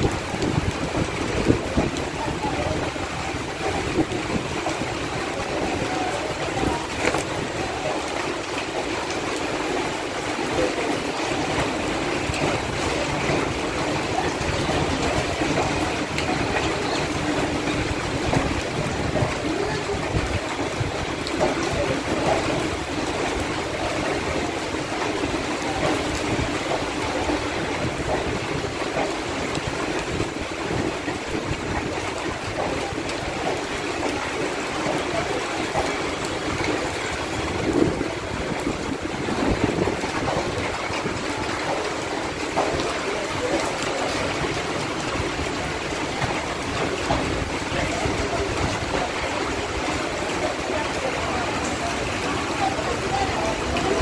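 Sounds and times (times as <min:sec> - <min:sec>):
train coaches rolling on rails: 0:00.0 - 0:54.0.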